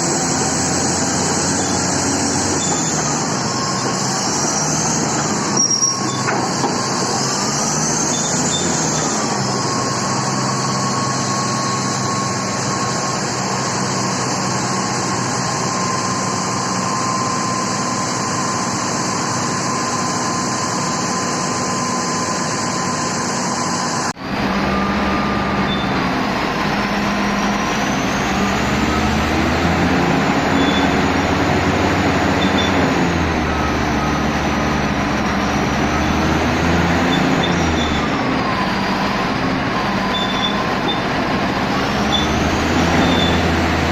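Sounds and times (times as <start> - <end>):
engine revving up and down: 0.0 - 17.6, 21.8 - 43.9
heavy diesel engine running: 0.0 - 43.9.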